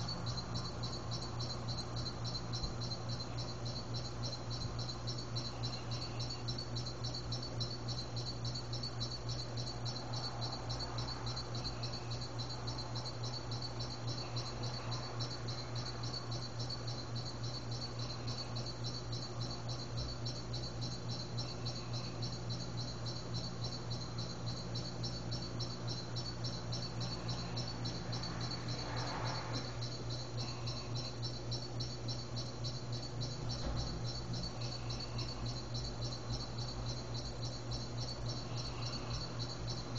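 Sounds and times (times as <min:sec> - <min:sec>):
crickets chirping trill: 0:00.0 - 0:39.9
faint high insect call: 0:00.0 - 0:39.9
steady low hum: 0:00.0 - 0:39.9.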